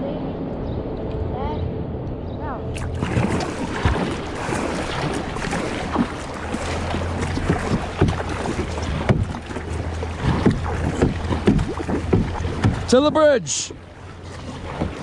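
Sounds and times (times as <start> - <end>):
wind rumble on microphone: 0.0 - 13.2
paddle strokes splashing in water: 2.8 - 15.0.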